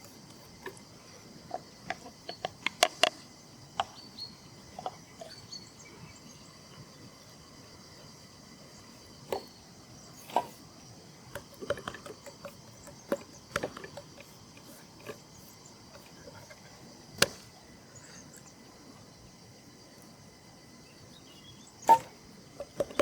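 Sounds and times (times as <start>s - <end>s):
high insect chirr: 0.0s - 23.0s.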